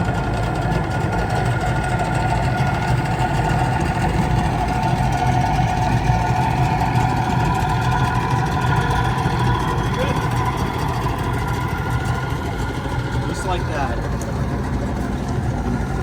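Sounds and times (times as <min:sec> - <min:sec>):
outboard motor idling: 0:00.0 - 0:16.0.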